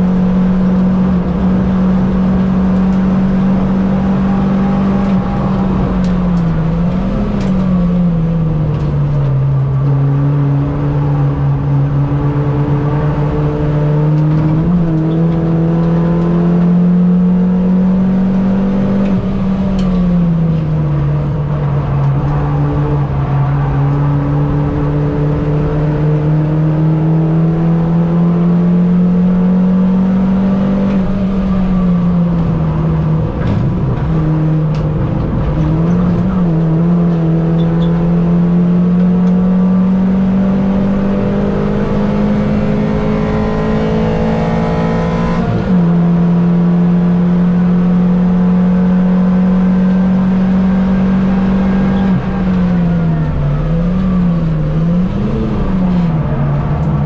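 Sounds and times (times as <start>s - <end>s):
race car engine revving high: 0.0s - 57.0s.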